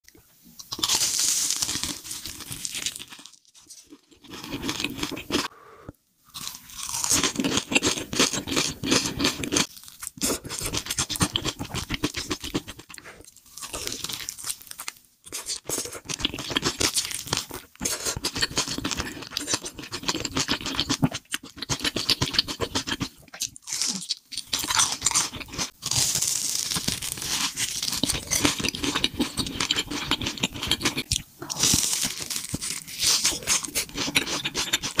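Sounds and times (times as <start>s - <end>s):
crunchy chewing: 0.6s - 5.5s, 6.3s - 35.0s.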